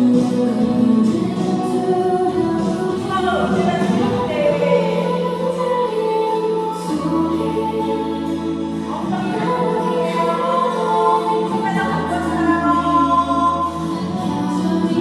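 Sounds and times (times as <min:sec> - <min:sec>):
low steady accompaniment: 0:00.0 - 0:15.0.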